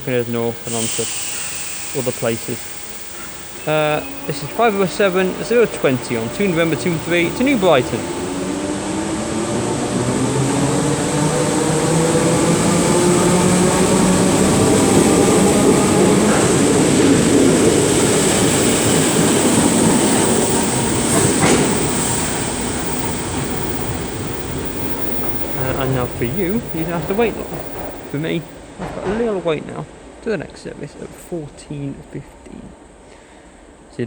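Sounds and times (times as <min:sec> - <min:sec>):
electric train motor whine: 0:00.0 - 0:28.8
wheel and rail noise: 0:00.0 - 0:33.8.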